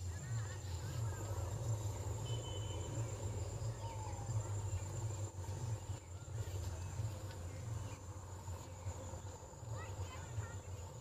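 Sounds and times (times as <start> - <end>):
insects chirring: 0.0 - 11.0
low fluttering rumble: 0.0 - 11.0.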